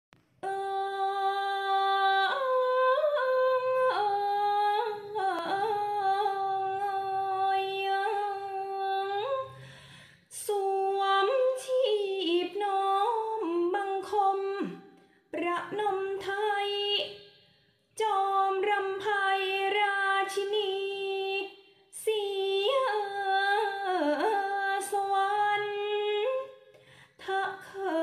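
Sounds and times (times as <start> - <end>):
woman singing chanted verse: 0.4 - 17.3, 18.0 - 28.0.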